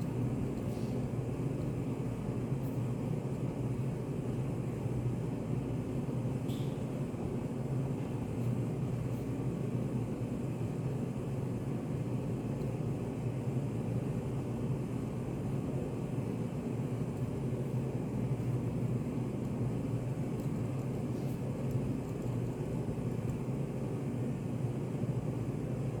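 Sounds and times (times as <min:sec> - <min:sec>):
low rumbling white noise: 0:00.0 - 0:26.0.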